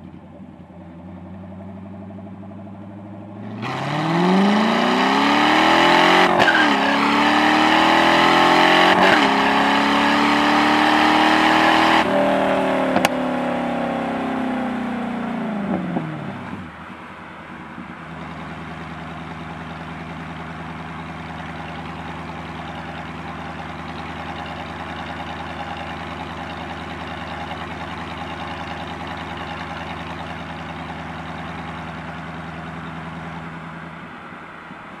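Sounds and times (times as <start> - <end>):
car engine droning: 0.0 - 35.0.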